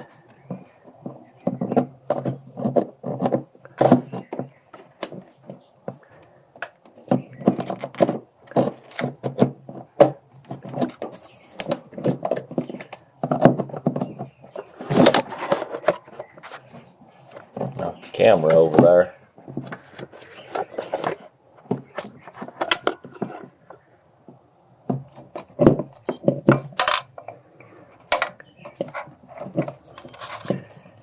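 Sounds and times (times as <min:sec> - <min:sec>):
camera bump and rustle: 0:00.0 - 0:31.0
clicks and rattles of parts: 0:00.0 - 0:31.0.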